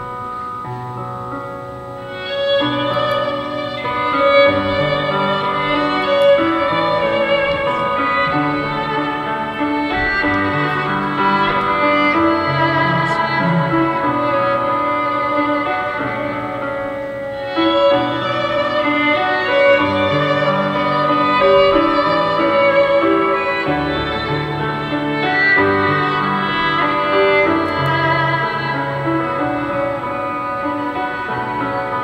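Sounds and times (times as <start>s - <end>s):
soft musical accompaniment: 0.0s - 32.0s
violin melody: 0.0s - 32.0s.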